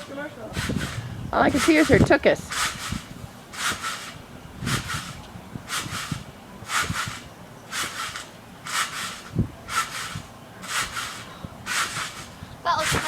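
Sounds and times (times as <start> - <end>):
trampoline springs creaking: 0.0 - 13.0.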